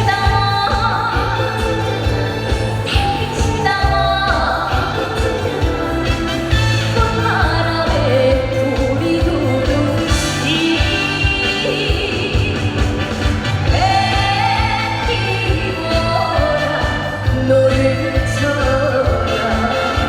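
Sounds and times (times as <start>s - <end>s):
backing track with steady beat: 0.0s - 20.0s
woman singing: 0.0s - 20.0s.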